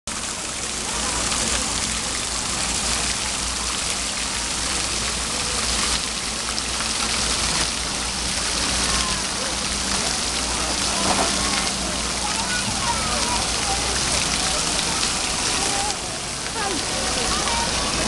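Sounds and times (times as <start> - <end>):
fountain water splashing: 0.1 - 18.0.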